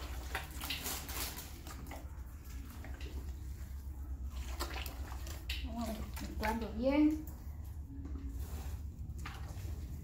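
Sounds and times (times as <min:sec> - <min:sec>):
dough squishing and slapping: 0:00.0 - 0:10.0.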